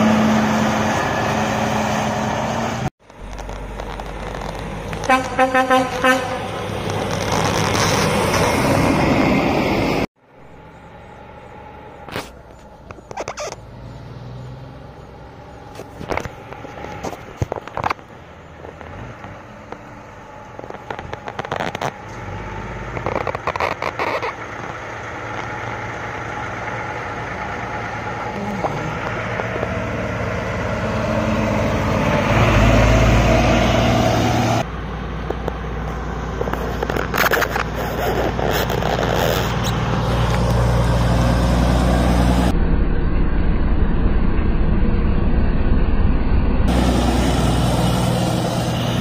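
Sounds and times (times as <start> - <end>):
diesel dump truck engines: 0.0 - 49.0.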